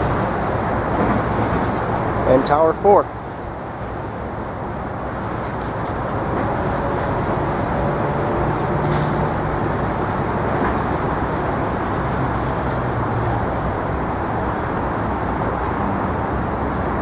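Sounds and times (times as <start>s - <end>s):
distant traffic rumble: 0.0s - 17.0s
faint engine hum: 0.0s - 17.0s.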